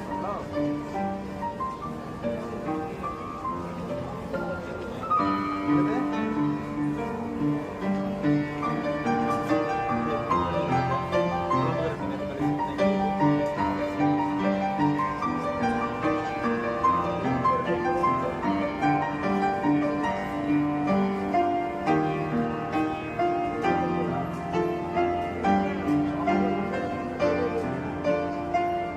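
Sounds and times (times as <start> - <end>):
piano background music: 0.0 - 28.9.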